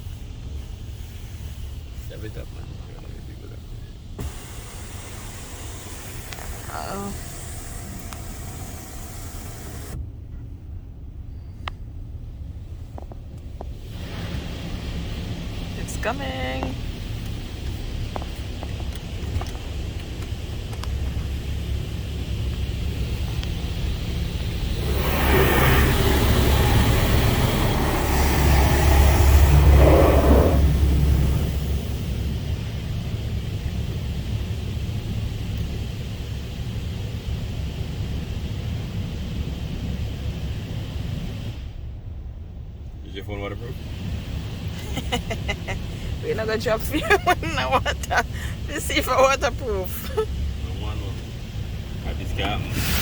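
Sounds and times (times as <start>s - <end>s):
water spray hissing on car: 0.0s - 10.0s, 13.7s - 41.7s, 43.1s - 53.0s
low rumble: 0.0s - 53.0s.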